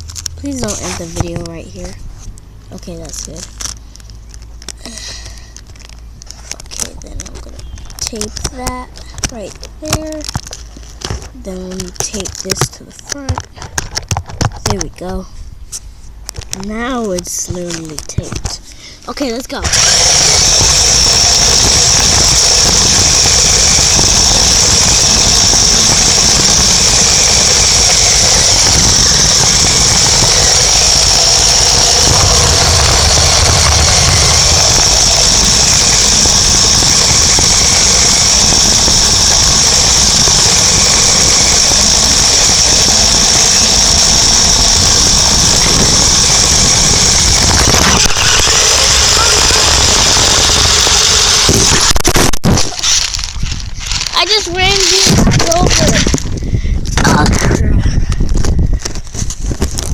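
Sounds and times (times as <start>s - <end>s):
wheels rumbling on ground: 0.0s - 59.9s
toy truck motor whine: 2.8s - 13.5s, 19.5s - 57.5s.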